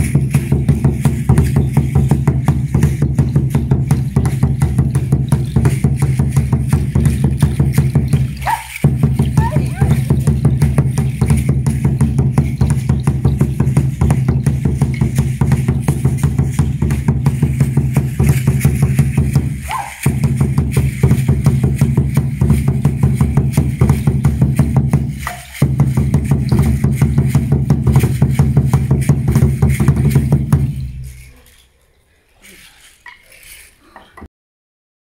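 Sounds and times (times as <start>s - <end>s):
wooden drum beaten with sticks: 0.0s - 31.6s.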